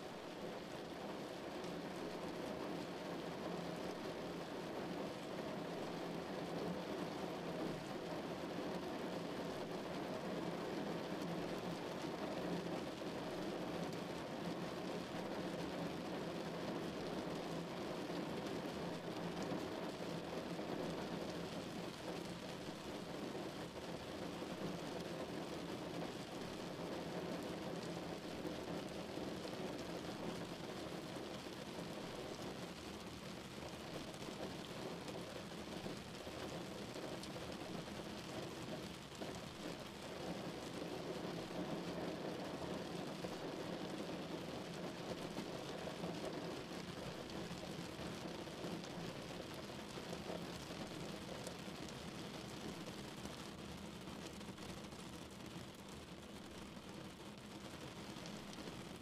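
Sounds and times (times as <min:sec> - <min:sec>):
rain on car windshield: 0:00.0 - 0:59.0.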